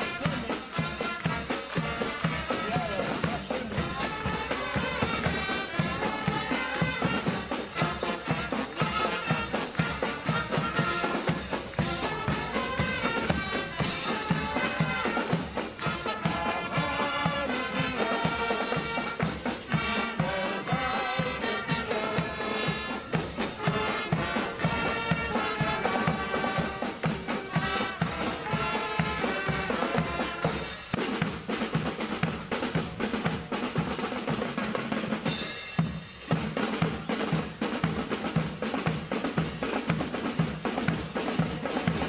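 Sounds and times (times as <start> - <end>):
brass band playing: 0.0 - 42.0
steady drum beat: 0.0 - 42.0.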